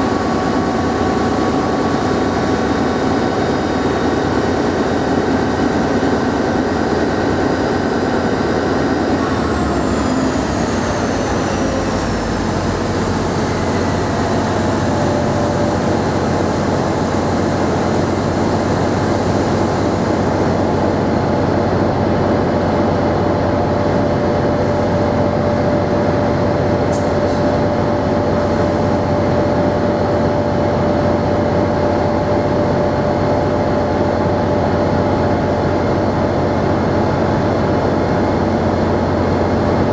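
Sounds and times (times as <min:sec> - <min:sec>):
passenger train rumbling: 0:00.0 - 0:39.9.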